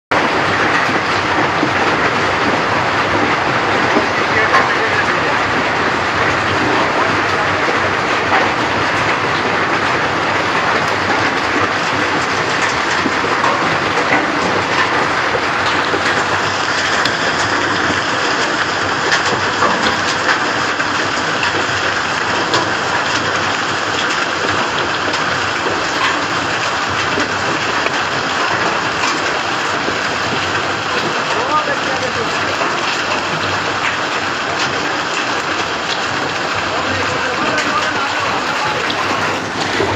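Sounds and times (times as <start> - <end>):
hailstones ticking: 0.1 - 39.9
heavy rain: 0.1 - 39.9.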